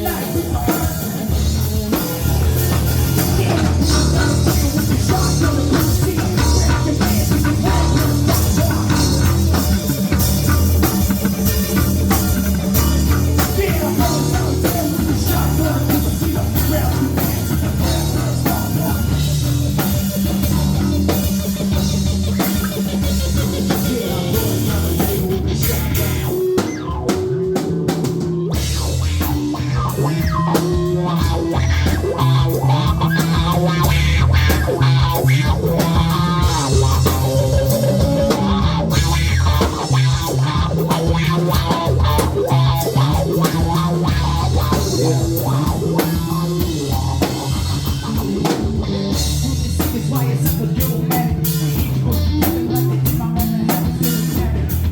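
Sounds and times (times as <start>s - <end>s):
drums and cymbals: 0.0s - 54.9s
live rock band playing: 0.0s - 54.9s.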